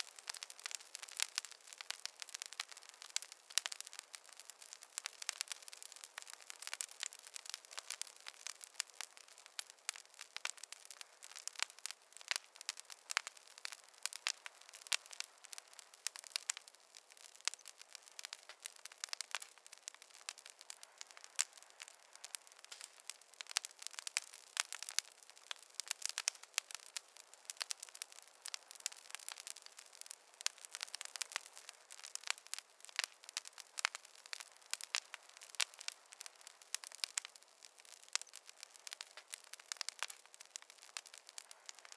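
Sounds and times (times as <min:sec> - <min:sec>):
faint hiss: 0:00.0 - 0:41.9
wood fire crackling: 0:00.0 - 0:41.9.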